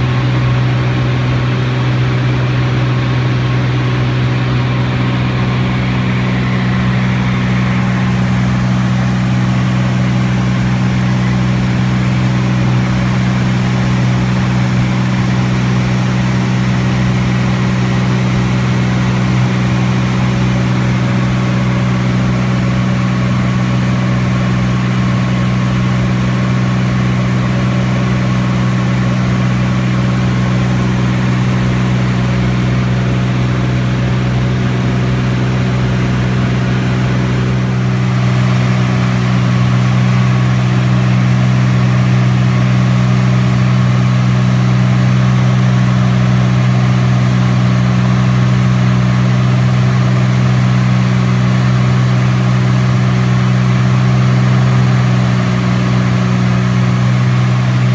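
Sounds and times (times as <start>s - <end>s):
propeller aircraft engine droning: 0.0s - 57.9s.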